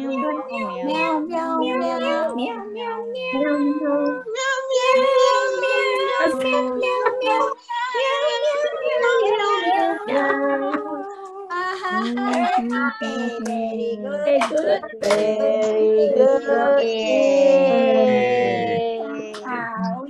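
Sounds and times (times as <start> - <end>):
voices singing wavering tones: 0.0 - 20.0.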